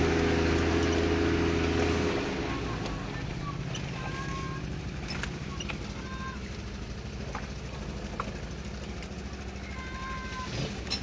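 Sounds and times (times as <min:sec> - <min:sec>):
car engine running from inside: 0:00.0 - 0:11.0.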